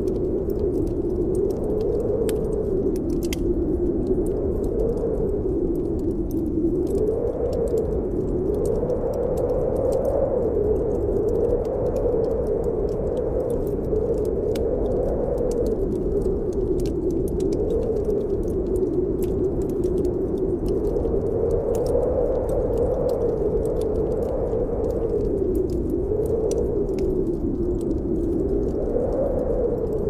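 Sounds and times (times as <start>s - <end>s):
fireplace fire crackling: 0.0s - 30.0s
snowstorm wind blowing: 0.0s - 30.0s.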